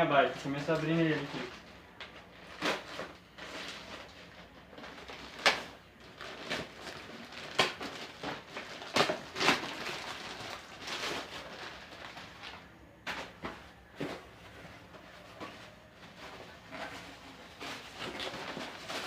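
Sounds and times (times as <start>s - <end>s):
plastic wrapping crinkling: 0.2s - 19.0s.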